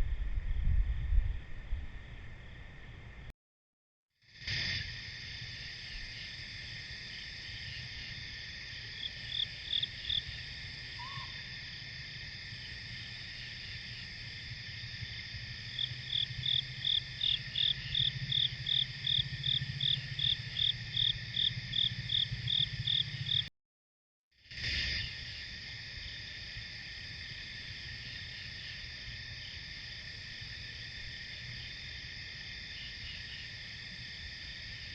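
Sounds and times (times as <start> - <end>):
crickets and insects trilling: 4.2 - 23.5, 24.4 - 34.9.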